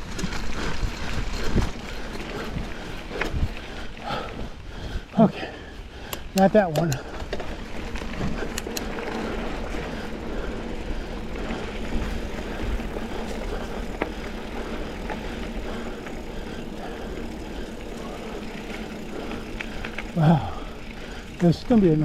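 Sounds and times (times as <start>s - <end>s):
wind rumbling on microphone: 0.0s - 6.1s, 6.8s - 21.4s
bike clicks and rattles: 0.0s - 22.0s
bike tyre and drivetrain noise: 0.0s - 22.0s.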